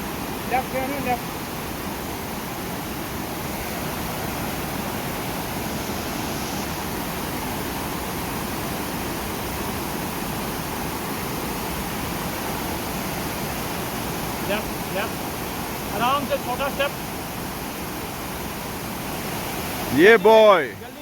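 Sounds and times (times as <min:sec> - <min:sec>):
rushing mountain stream: 0:00.0 - 0:21.0.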